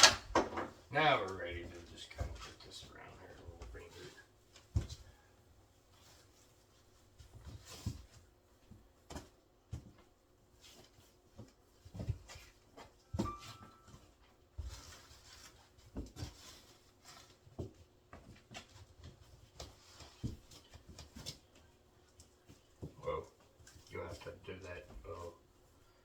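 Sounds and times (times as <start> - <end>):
decorations knocking and rustling: 0.0 - 25.4.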